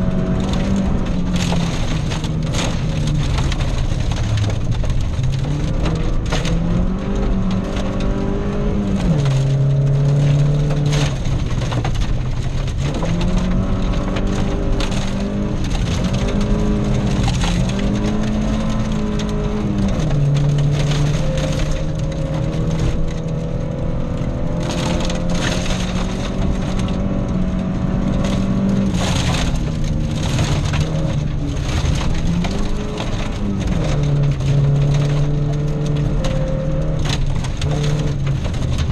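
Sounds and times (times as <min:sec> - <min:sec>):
gravel rattling against underbody: 0:00.0 - 0:38.9
rally car engine revving through gears: 0:00.0 - 0:38.9.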